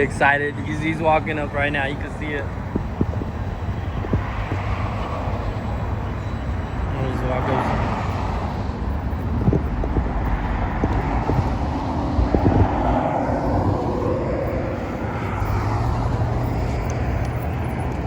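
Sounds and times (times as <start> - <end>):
traffic rumble: 0.0 - 18.0
vehicle passing: 0.0 - 18.0.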